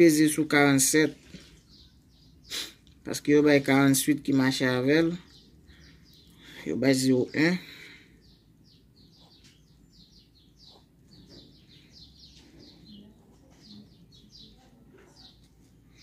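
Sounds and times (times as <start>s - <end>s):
small bird chirping: 0.2s - 16.0s.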